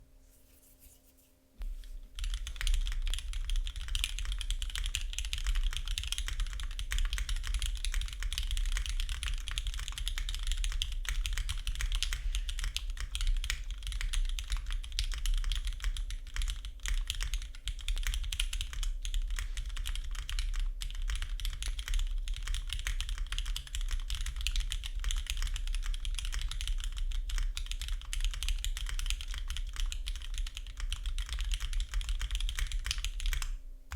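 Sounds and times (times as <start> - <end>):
fast typing on mechanical keyboard: 2.1 - 33.5.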